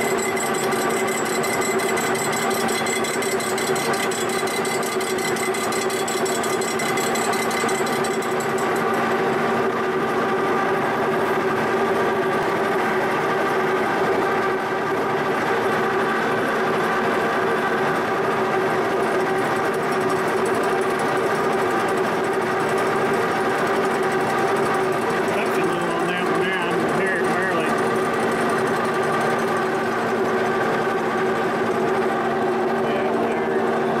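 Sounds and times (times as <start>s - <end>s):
milling machine humming: 0.0s - 34.0s.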